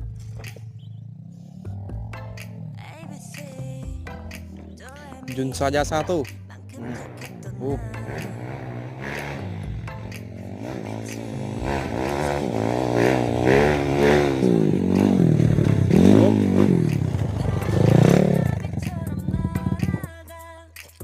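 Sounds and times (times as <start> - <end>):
dirt bike engine revving: 0.0 - 20.1.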